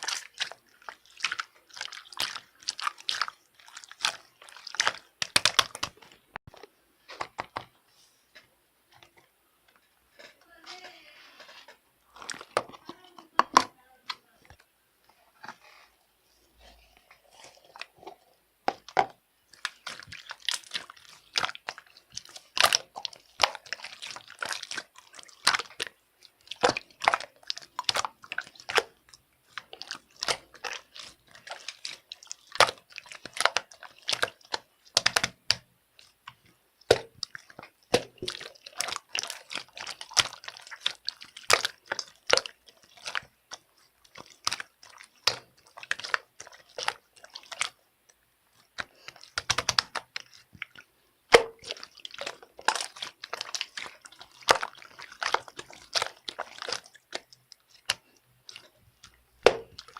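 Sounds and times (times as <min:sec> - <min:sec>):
slime squished by hand: 0:00.0 - 0:06.3, 0:16.6 - 0:59.9.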